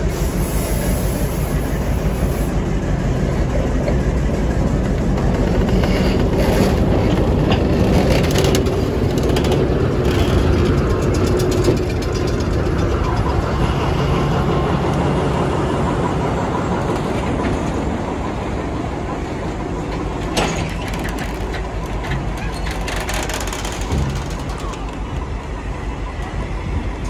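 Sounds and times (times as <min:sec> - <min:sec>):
diesel locomotive engine running: 0:00.0 - 0:27.0
train wheels rumbling and clanking: 0:00.0 - 0:27.0.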